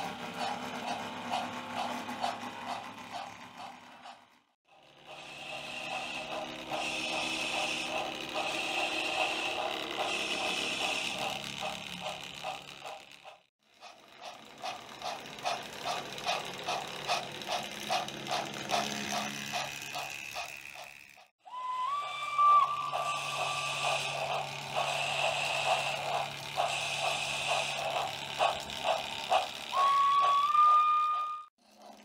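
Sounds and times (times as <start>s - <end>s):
model train rhythmic clicking: 0.0s - 32.0s.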